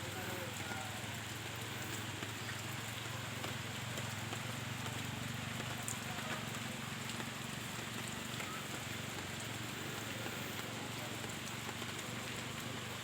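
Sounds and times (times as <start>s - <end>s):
faint drip ticks: 0.0s - 13.0s
rain falling: 0.0s - 13.0s.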